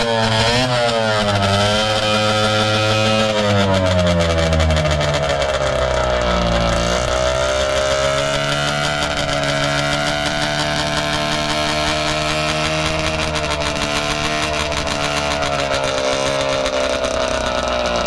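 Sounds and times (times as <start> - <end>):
snowmobile two-stroke engine running: 0.0 - 18.0.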